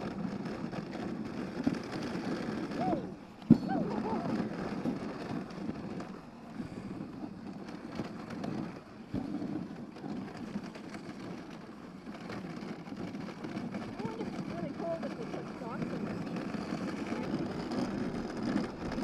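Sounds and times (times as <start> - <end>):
sled runners scraping on snow: 0.0 - 19.0.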